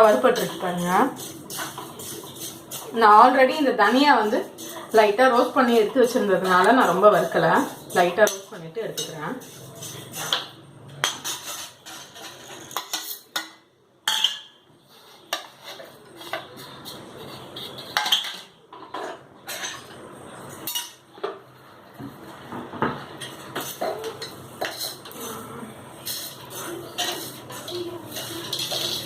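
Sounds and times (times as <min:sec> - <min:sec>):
spatula scraping in a pan: 0:00.0 - 0:13.4, 0:14.8 - 0:22.6, 0:23.2 - 0:29.0.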